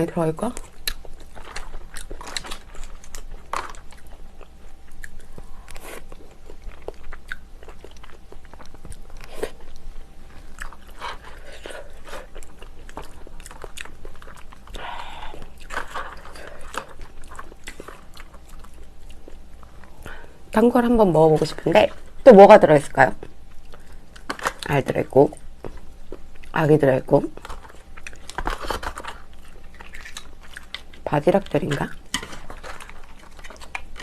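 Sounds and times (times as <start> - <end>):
close-miked chewing and biting: 0.4 - 20.2, 23.2 - 26.6, 27.2 - 34.0.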